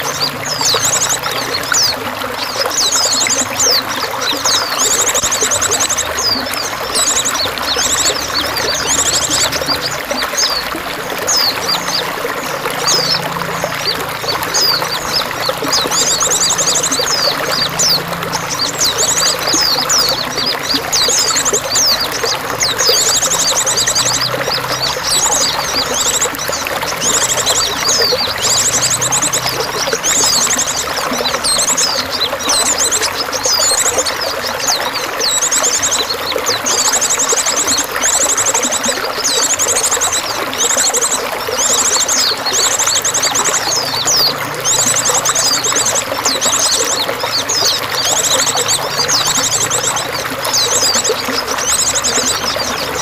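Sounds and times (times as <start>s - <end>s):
songbirds chirping and trilling: 0.0s - 53.0s
water pouring and trickling: 0.0s - 53.0s.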